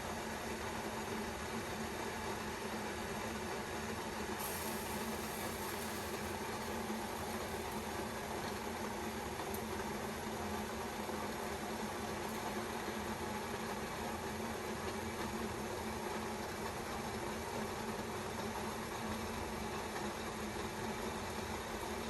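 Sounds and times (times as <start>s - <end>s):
kettle water boiling: 0.0s - 22.0s.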